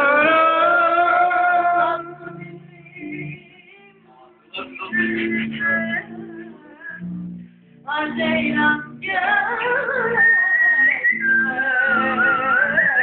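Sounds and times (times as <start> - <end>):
woman singing: 0.0 - 7.2, 7.8 - 13.0
guitar accompaniment: 0.0 - 13.0.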